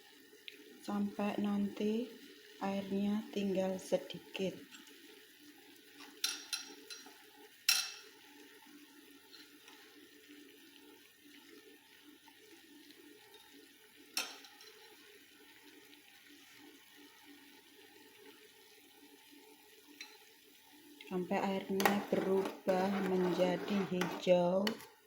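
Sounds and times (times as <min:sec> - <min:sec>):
water boiling in pot: 0:00.0 - 0:25.0.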